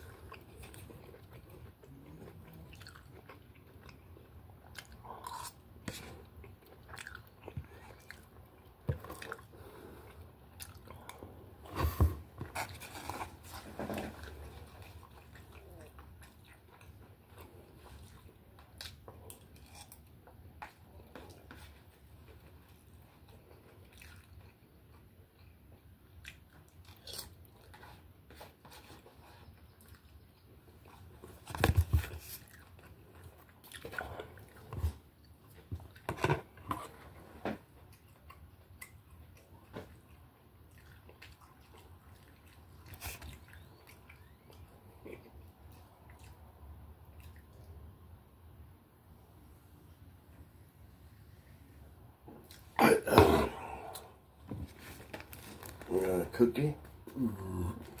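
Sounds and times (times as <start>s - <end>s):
person chewing: 0.0s - 47.7s, 52.3s - 55.9s.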